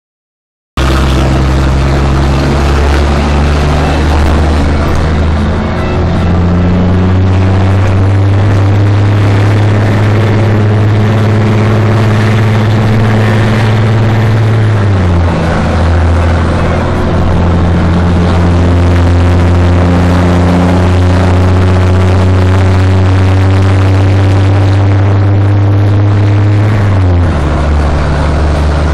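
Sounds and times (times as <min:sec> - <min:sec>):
loud diesel engine running: 0:00.8 - 0:28.9.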